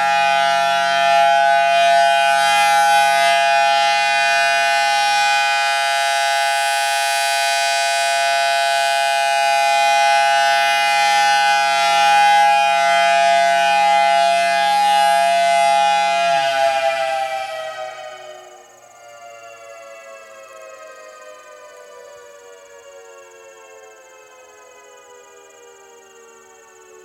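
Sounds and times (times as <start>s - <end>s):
warning siren steady tone: 0.0s - 27.0s.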